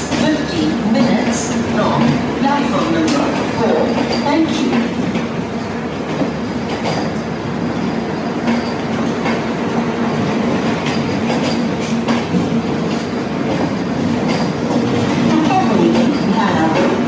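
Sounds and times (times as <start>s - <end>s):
train rolling noise: 0.0s - 17.0s
train wheels clicking over rail joints: 0.0s - 17.0s.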